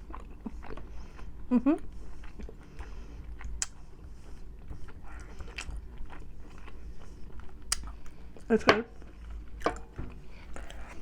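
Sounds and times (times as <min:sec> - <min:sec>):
close chewing with mouth clicks: 0:00.0 - 0:11.0
low steady hum: 0:00.0 - 0:11.0.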